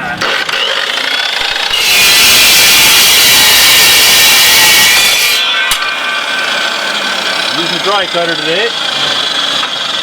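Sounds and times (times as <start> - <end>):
saw motor whining: 0.0 - 10.0
saw cutting steel: 0.1 - 10.0.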